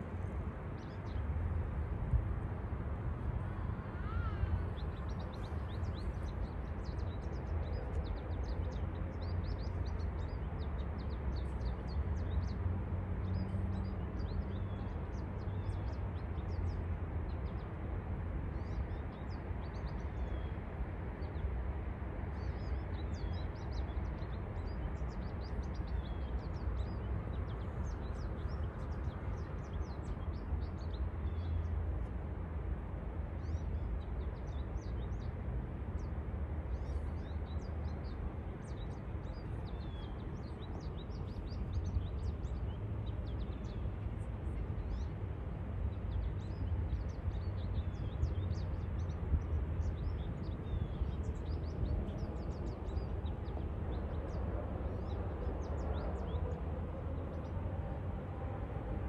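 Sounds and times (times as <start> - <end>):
songbirds chirping and twittering: 3.2 - 59.0.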